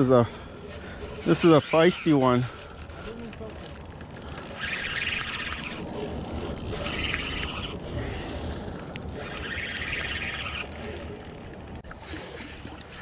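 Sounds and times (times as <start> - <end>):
fishing reel whirring: 0.0 - 11.8.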